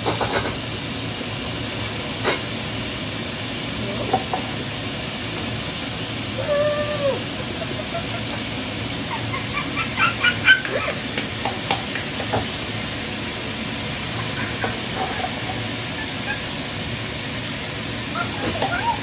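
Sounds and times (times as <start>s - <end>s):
food hissing on stove: 0.2s - 19.0s.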